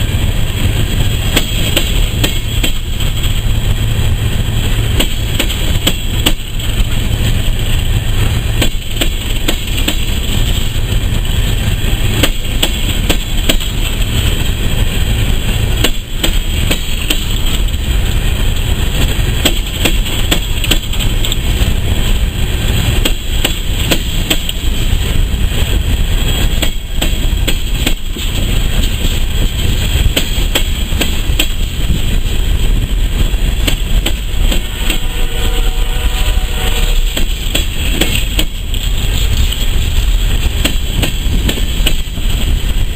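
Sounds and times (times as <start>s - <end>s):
train cars rumbling: 0.0s - 42.9s
wheels clanking on rails: 0.0s - 42.9s.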